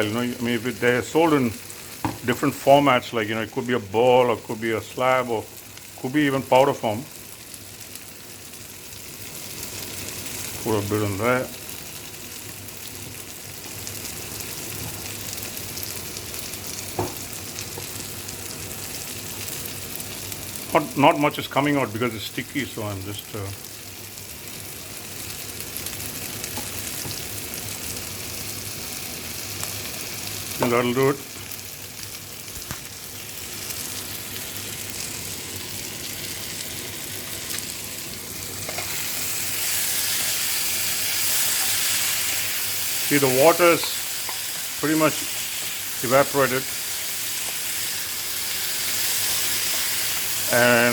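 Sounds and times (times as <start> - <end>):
vegetables sizzling in a pan: 0.0 - 50.9.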